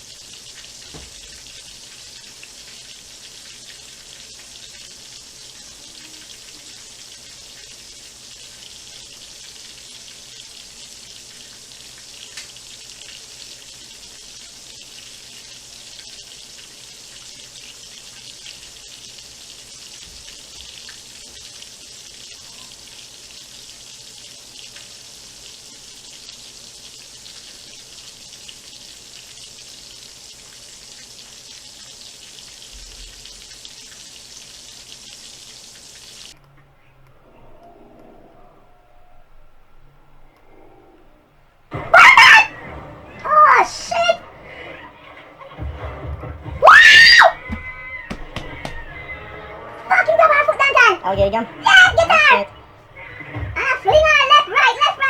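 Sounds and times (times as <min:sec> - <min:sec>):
chicken frying sizzle: 0:00.0 - 0:36.4, 0:41.7 - 0:55.0.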